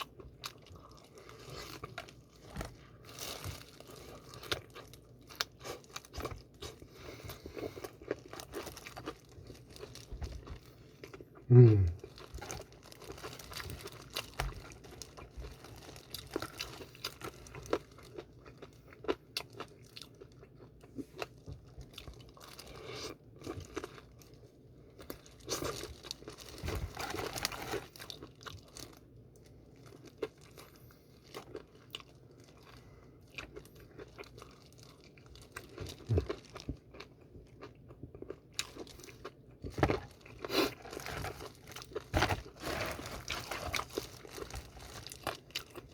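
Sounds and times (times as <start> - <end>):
chewing and crunching food: 0.0 - 45.9.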